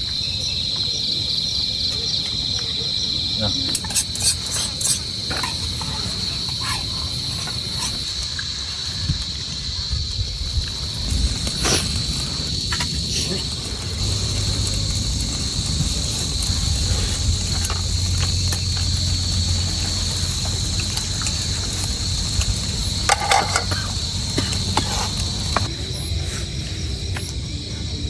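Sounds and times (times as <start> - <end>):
insects trilling: 0.0 - 28.0
wind rumble on microphone: 4.8 - 28.0.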